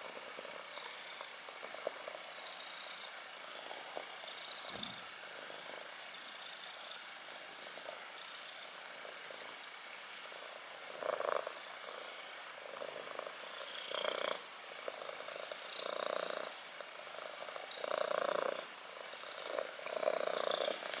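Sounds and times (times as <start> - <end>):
kitten purring: 0.0 - 9.6, 10.3 - 21.0.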